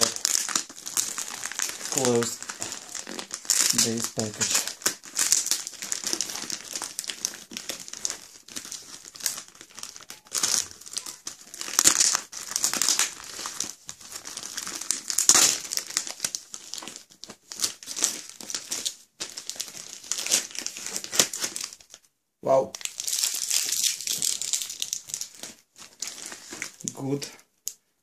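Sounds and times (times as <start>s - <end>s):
plastic mailer bag crinkling: 0.0s - 22.0s, 22.8s - 27.4s.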